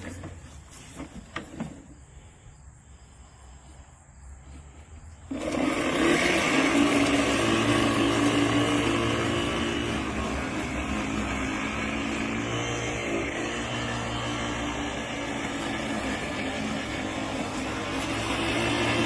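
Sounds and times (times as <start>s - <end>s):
electric lawn mower humming: 0.0s - 2.2s, 4.4s - 19.0s.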